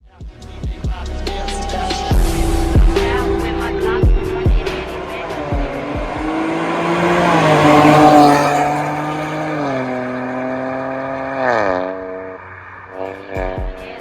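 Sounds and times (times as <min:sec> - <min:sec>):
car engine revving: 0:00.4 - 0:14.0.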